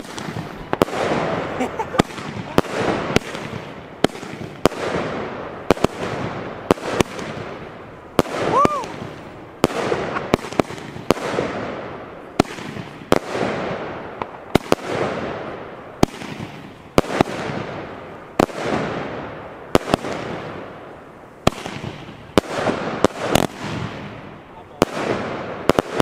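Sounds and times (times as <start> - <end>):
firework bangs: 0.0 - 26.0
firework crackle: 0.0 - 26.0.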